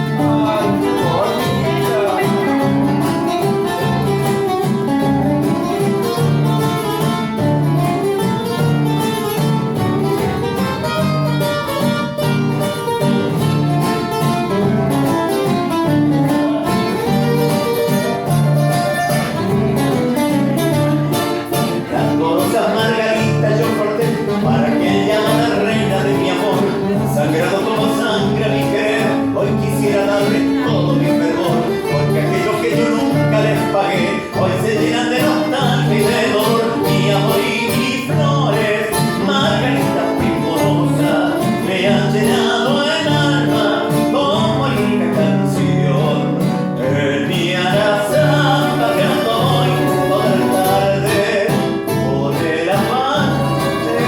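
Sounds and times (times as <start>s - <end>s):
guitar ensemble playing: 0.0s - 54.0s.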